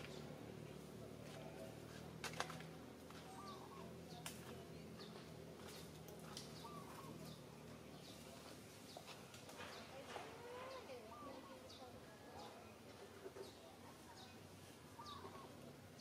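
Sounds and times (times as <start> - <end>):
bird chirps and warbles: 3.1 - 16.0.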